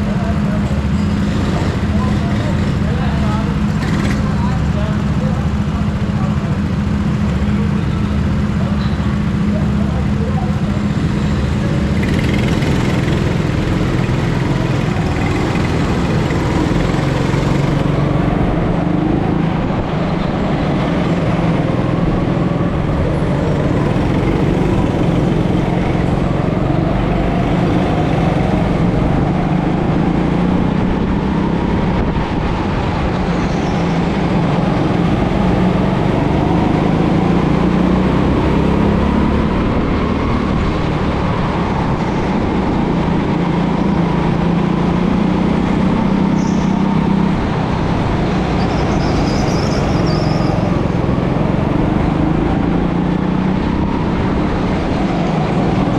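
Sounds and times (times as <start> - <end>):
go-kart engine running: 0.0 - 55.9.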